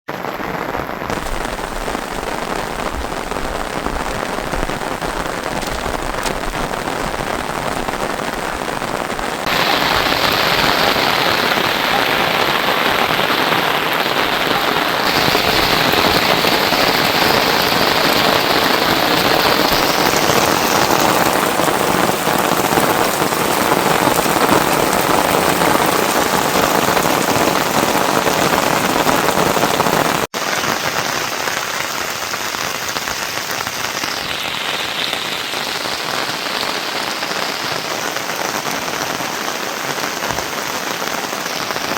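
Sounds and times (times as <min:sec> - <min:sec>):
heavy rain falling: 0:00.1 - 0:41.9.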